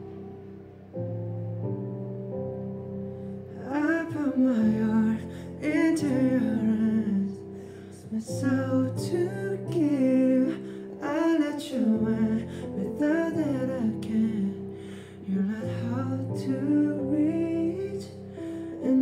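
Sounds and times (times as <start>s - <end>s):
person singing: 3.4s - 19.0s.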